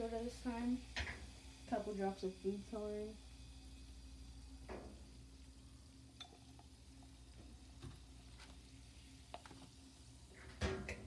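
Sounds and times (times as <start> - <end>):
baking soda and vinegar fizzing: 0.0 - 11.0.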